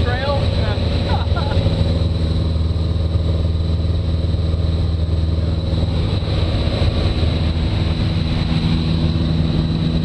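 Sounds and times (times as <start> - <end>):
aircraft engine and propeller droning: 0.0 - 10.0.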